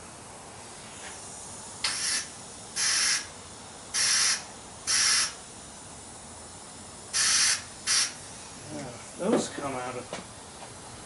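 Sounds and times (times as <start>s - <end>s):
air blow gun hissing blasts: 0.4s - 9.8s.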